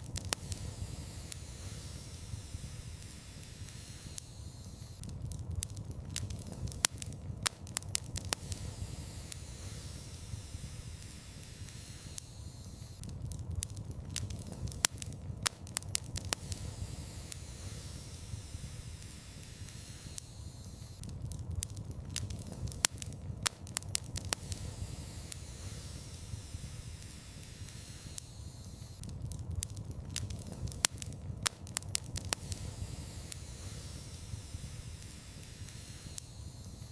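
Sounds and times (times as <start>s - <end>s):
wood fire crackling in fireplace: 0.0s - 36.9s.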